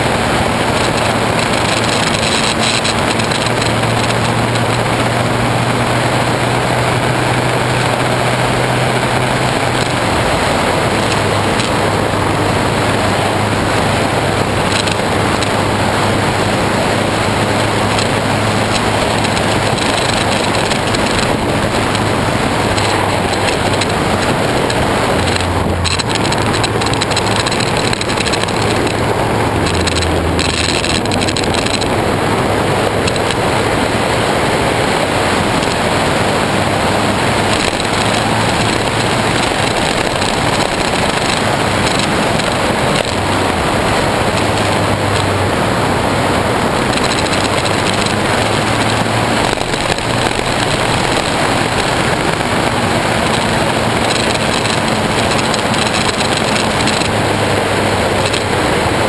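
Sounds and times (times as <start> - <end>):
dense rushing noise: 0.0 - 59.0
low motorcycle engine hum: 0.0 - 59.0.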